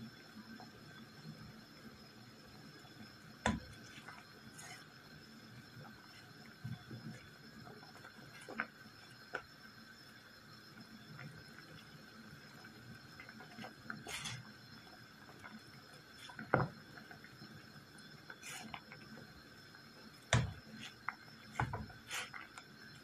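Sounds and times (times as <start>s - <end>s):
pot boiling and bubbling: 0.0s - 23.0s.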